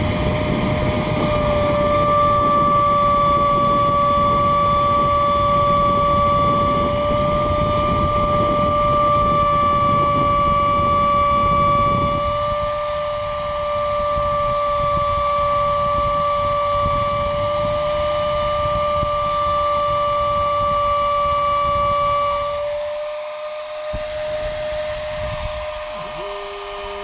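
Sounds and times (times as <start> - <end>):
motor tone ramping in pitch: 0.0 - 27.0
stepper motors whining: 0.0 - 27.0.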